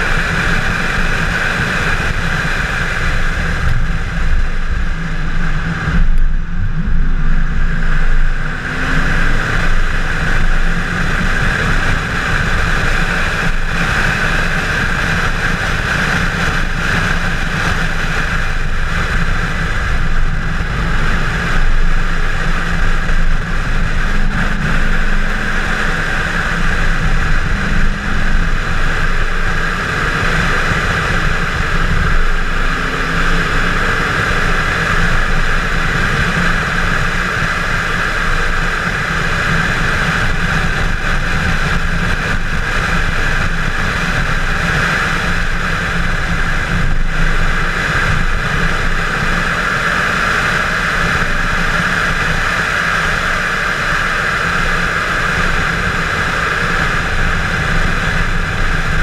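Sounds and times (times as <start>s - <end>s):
car engine running: 0.0s - 59.0s
road roar: 0.0s - 59.0s
wind rush: 0.0s - 59.0s.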